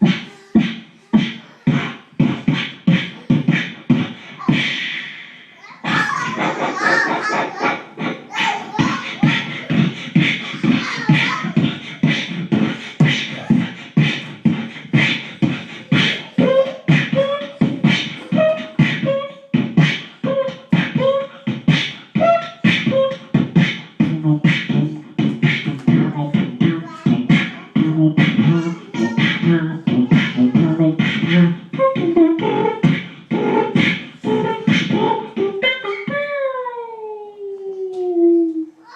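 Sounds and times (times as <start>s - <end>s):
man beatboxing: 0.0s - 38.8s
held vocal notes: 0.0s - 38.9s.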